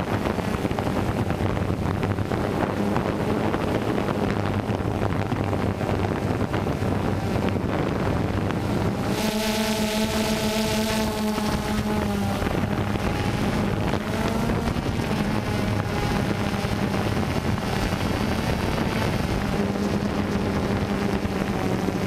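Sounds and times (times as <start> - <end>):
drone propellers buzzing: 0.0 - 22.0
wind rush on microphone: 0.0 - 22.0.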